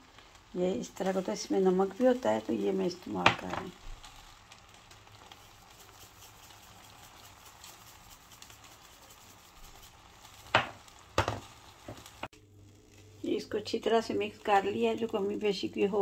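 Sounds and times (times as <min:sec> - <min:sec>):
food sizzling in frying pan: 0:00.0 - 0:16.0.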